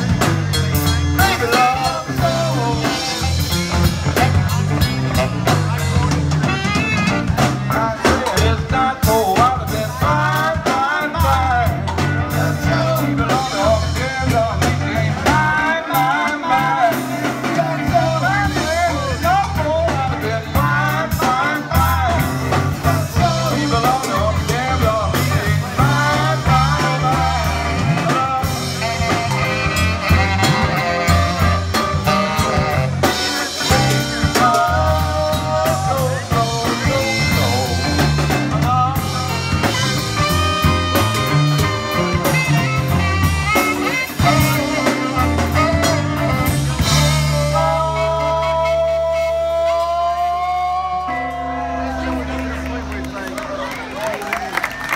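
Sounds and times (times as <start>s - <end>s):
drum kit: 0.0s - 51.5s
saxophone: 0.0s - 54.0s
bass guitar: 0.0s - 54.9s
electric guitar: 0.0s - 54.9s
lead vocal singing: 1.2s - 5.2s, 7.4s - 43.0s, 44.0s - 51.8s.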